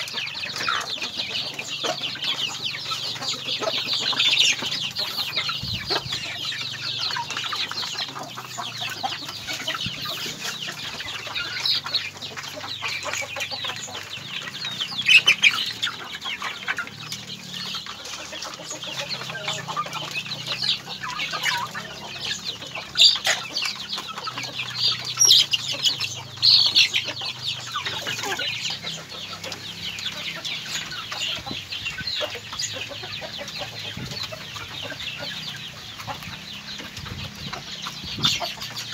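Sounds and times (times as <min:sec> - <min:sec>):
chickens calling: 0:00.0 - 0:38.9.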